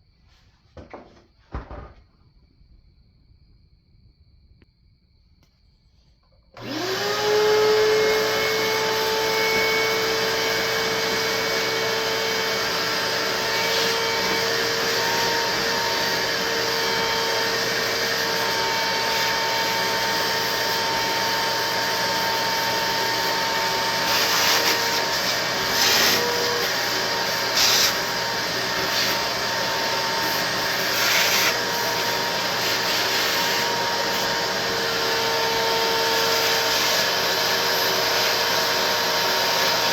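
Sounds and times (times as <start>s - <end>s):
electric motor whining: 6.6s - 39.9s.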